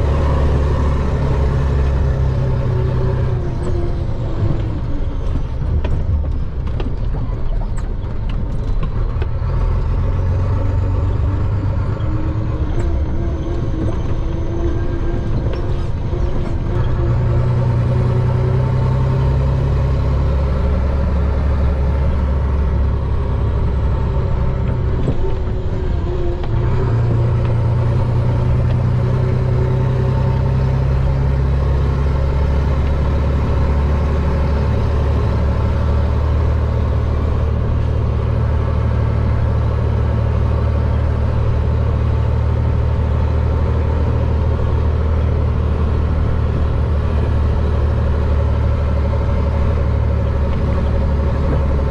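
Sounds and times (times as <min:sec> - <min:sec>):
diesel truck engine running: 0:00.0 - 0:51.9.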